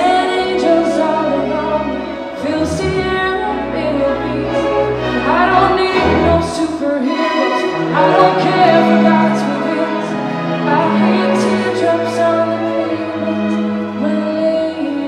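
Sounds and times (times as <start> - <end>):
string and piano chords: 0.0 - 15.0.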